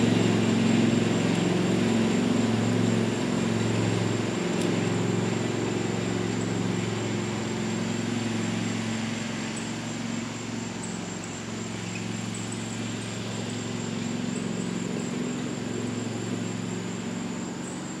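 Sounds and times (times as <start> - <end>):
lawn tractor engine running: 0.0 - 18.0.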